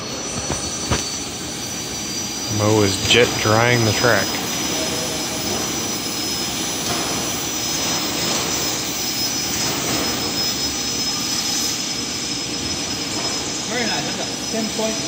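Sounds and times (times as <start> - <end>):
model jet dryer blowing: 0.0 - 15.0.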